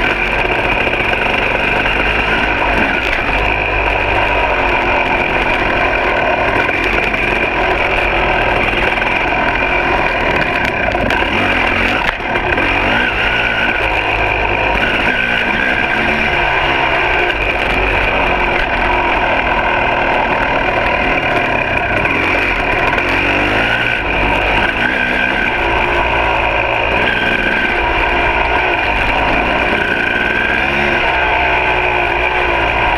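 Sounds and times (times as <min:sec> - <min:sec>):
two-stroke motorcycle engine: 0:00.0 - 0:32.9.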